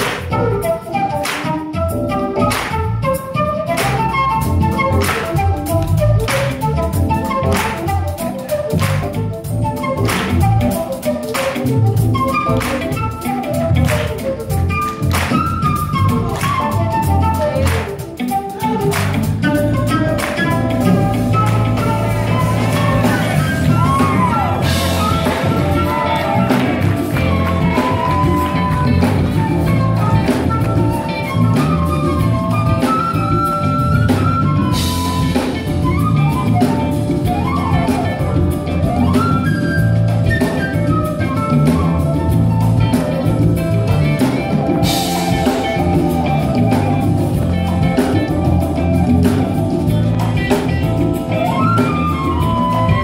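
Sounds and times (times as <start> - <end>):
drums: 0.0 - 53.0
flute melody: 0.0 - 53.0
keyboard: 0.0 - 53.0.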